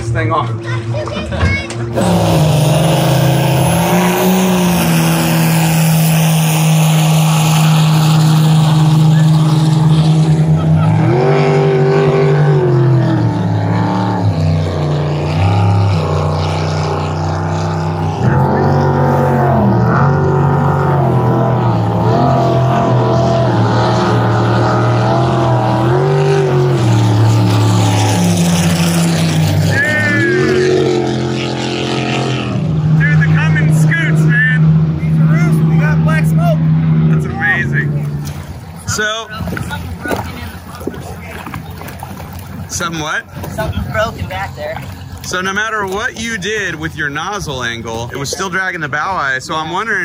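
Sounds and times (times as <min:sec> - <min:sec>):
boat engine droning: 0:00.0 - 0:50.0
water rushing: 0:00.0 - 0:50.0.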